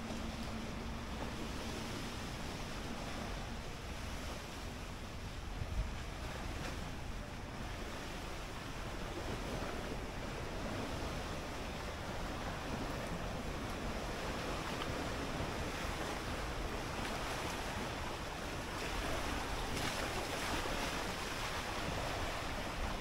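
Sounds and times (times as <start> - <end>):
small lake waves on shore: 0.0 - 23.0
wind on microphone: 0.0 - 23.0.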